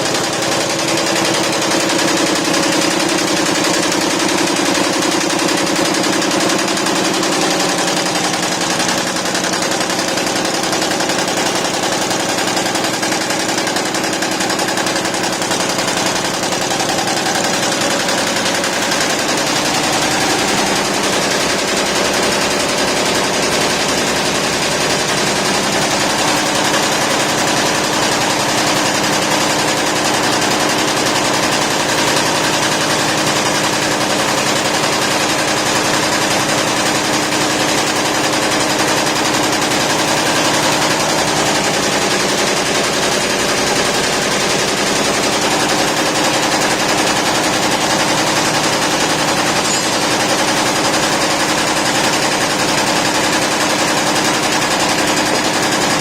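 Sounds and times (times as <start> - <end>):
embroidery machine clattering: 0.0 - 56.0.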